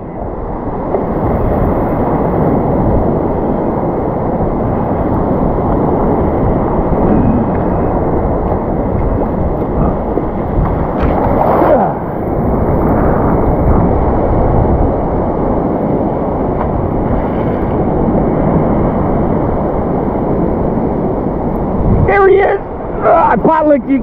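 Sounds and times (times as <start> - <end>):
rush of water: 0.0 - 24.0
surf waves washing: 0.0 - 24.0
wind buffeting microphone: 0.0 - 24.0.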